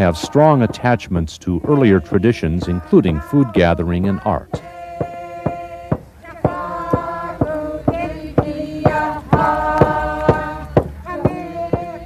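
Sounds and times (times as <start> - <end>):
drum beaten steadily: 0.0 - 12.0
person chanting long held notes: 0.0 - 12.0.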